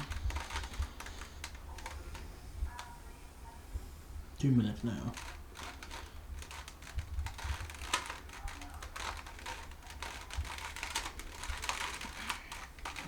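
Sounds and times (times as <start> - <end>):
plastic puzzle cube clicks and rattles: 0.0 - 2.9, 5.0 - 13.0
person speaking: 0.0 - 6.2, 6.8 - 13.0.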